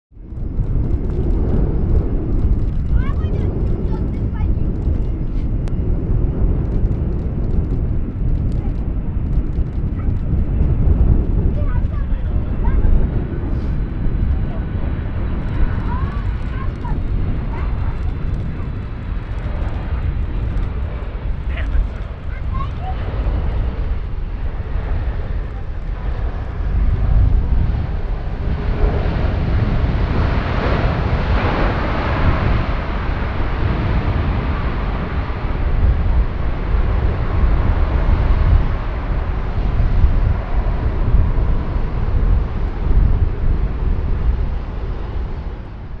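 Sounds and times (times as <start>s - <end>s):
jet engine roar: 0.2s - 46.0s.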